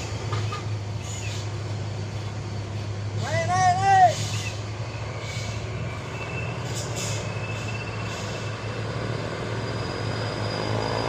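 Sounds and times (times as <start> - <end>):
heavy truck engine droning: 0.0 - 11.0.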